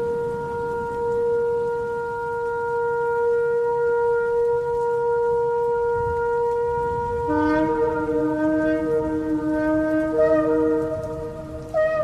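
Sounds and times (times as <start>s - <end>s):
shofar long held note: 0.0s - 12.0s.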